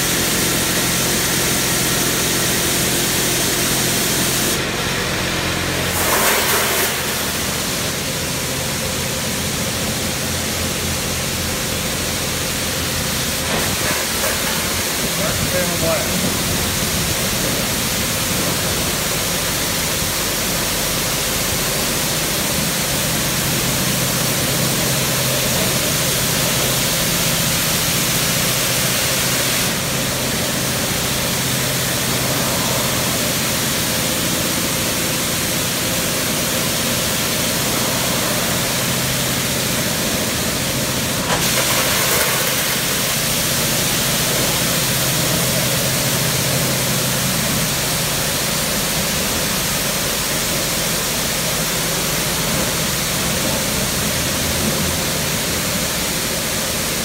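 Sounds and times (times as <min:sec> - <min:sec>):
water jets spraying a car: 0:00.0 - 0:57.0.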